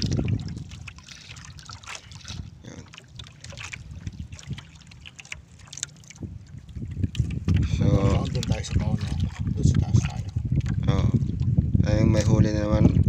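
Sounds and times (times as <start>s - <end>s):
small waves lapping against boat hull: 0.0s - 13.0s.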